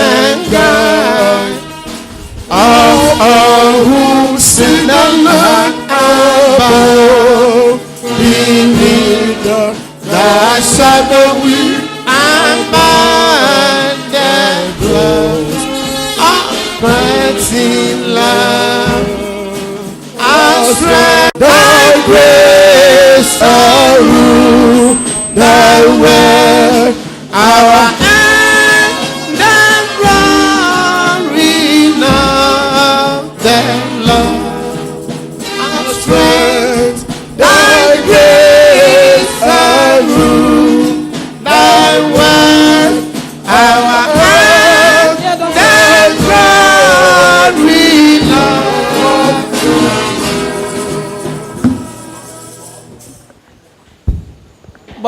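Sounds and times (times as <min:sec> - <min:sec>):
gospel music with singing: 0:00.0 - 0:55.0.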